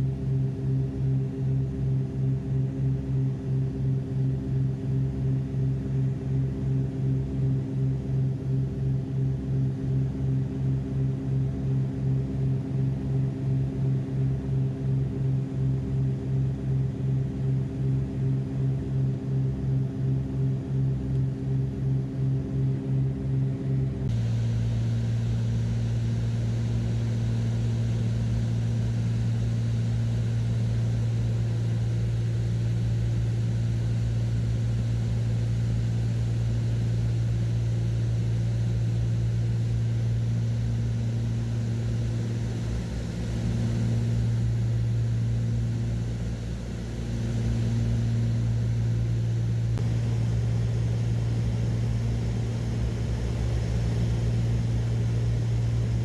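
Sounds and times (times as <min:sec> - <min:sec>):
propeller plane engines droning: 0:00.1 - 0:56.0.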